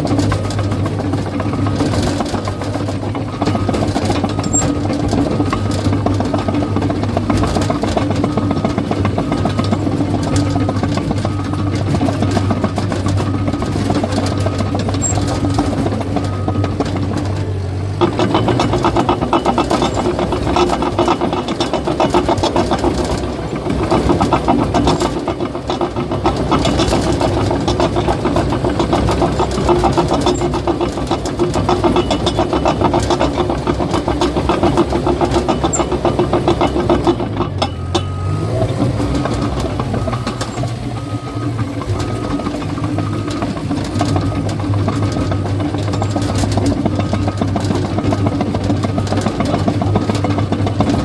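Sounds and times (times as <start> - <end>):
bulldozer diesel engine: 0.0 - 51.0
steel tracks clattering: 0.0 - 51.0.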